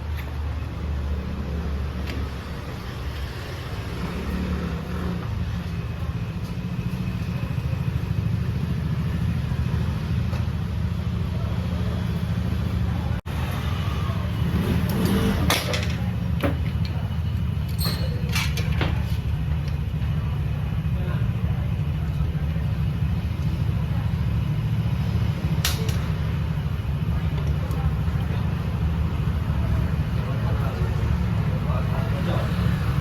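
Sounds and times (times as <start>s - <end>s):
scooter engine idling: 0.0s - 33.0s.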